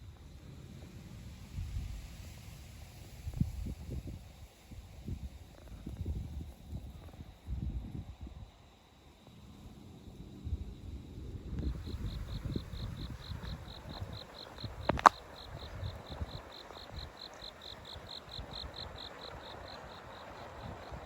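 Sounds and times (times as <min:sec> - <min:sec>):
insect chirping: 0:01.5 - 0:21.0.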